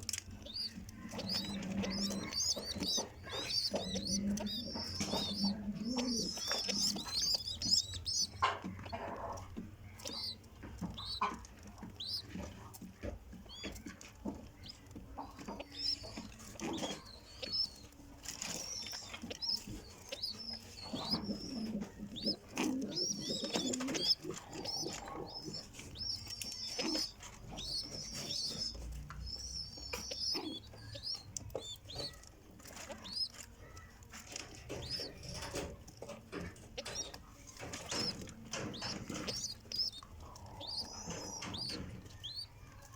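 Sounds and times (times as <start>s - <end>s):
high chirps and peeps: 0.0s - 42.9s
pigeons cooing: 0.0s - 42.9s.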